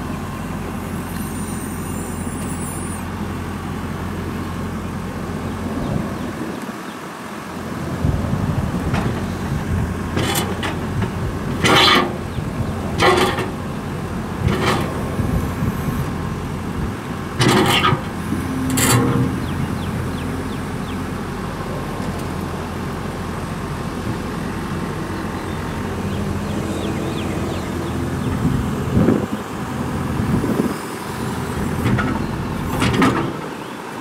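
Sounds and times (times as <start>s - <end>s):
skid steer diesel engine running: 0.0s - 34.0s.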